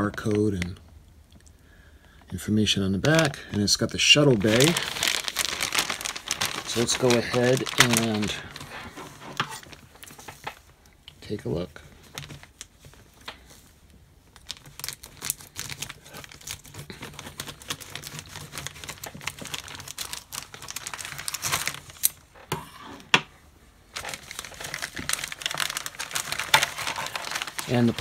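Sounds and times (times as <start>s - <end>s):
plastic packaging crinkling: 0.0s - 0.8s, 2.6s - 11.4s, 12.0s - 22.4s, 23.9s - 28.0s.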